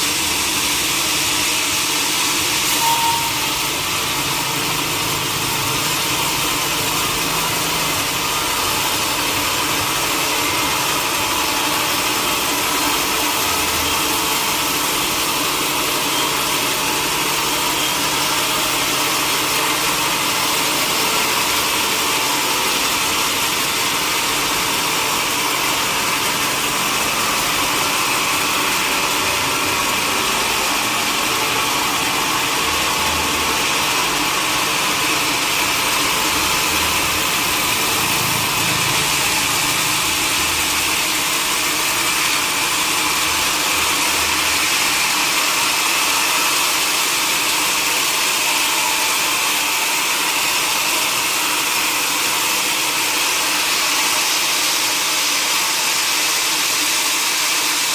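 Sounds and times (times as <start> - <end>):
sawmill machinery drone: 0.0 - 57.9.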